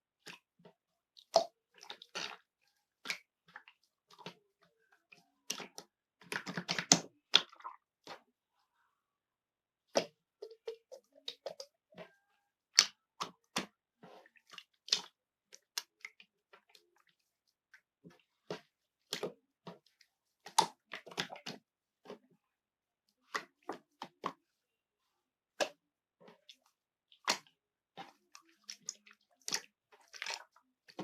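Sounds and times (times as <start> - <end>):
slime squelching and popping: 0.2 - 8.4, 9.8 - 22.3, 23.1 - 24.6, 25.5 - 31.0.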